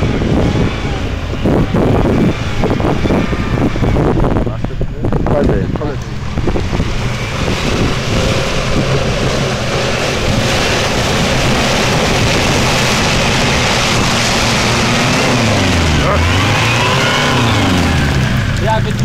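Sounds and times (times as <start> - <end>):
engine running hard: 0.0 - 19.0.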